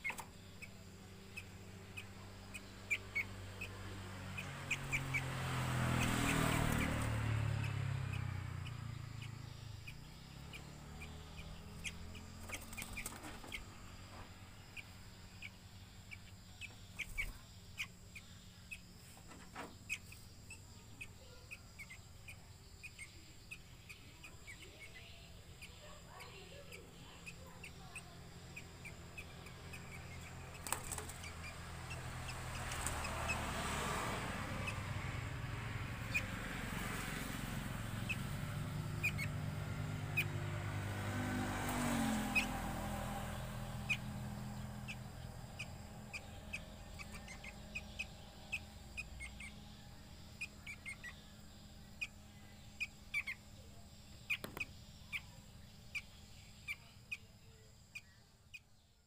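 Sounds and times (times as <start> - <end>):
young bird chirping: 0.0 - 58.9.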